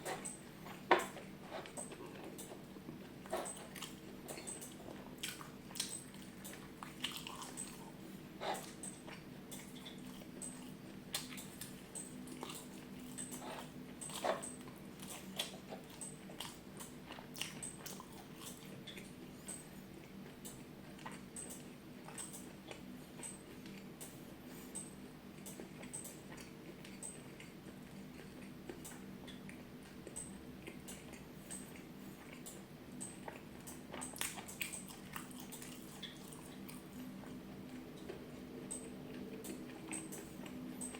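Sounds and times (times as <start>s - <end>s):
chewing and biting food: 0.0s - 24.8s, 25.4s - 40.9s
low steady hum: 0.0s - 40.9s.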